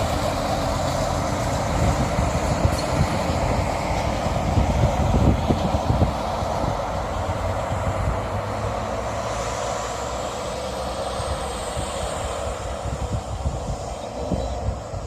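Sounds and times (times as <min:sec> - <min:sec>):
train rumbling drone: 0:00.0 - 0:15.0.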